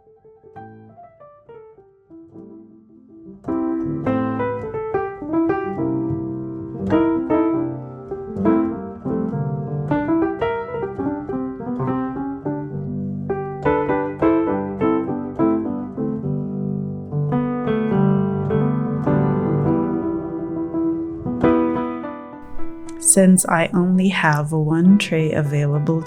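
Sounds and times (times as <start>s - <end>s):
piano music: 0.0s - 21.8s, 22.4s - 26.0s.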